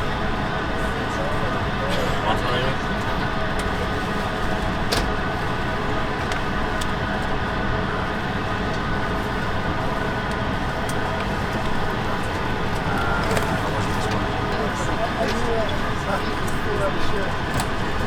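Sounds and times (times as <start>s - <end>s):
airplane cabin ventilation rush: 0.0s - 18.0s.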